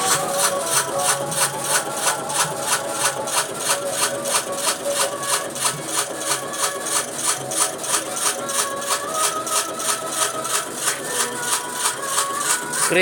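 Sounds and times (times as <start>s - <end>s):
slicing machine cutting strokes: 0.0s - 13.0s.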